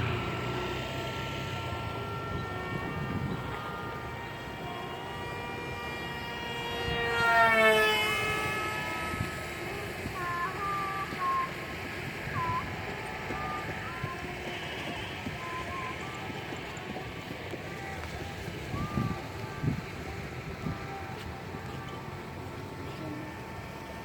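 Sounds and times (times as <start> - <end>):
model jet whine flying by: 0.0 - 24.0.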